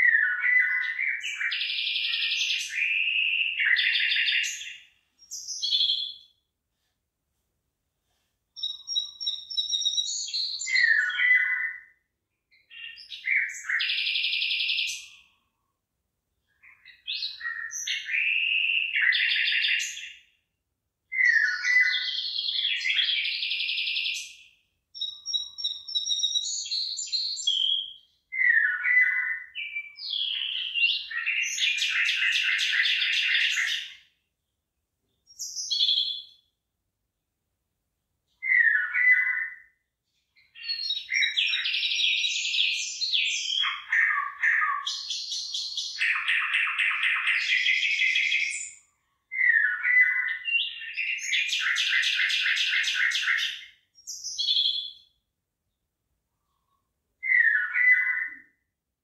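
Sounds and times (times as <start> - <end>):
songbird chirps and trills: 0.0 - 6.5, 8.6 - 15.7, 16.3 - 20.4, 21.1 - 36.6, 38.3 - 58.8.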